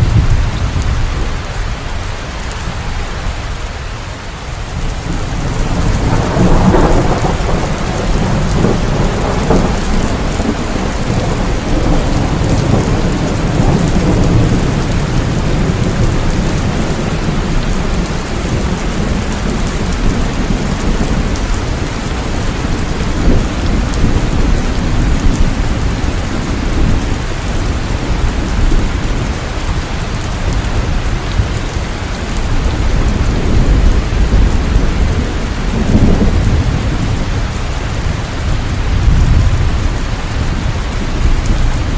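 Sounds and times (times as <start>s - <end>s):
low rolling thunder: 0.0s - 3.7s, 4.6s - 41.9s
steady rain falling: 0.0s - 41.9s.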